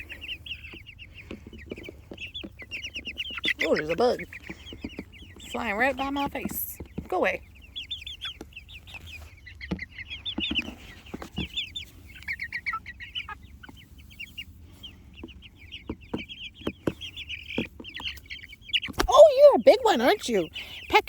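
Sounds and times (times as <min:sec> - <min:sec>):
chicks chirping: 0:00.0 - 0:21.0.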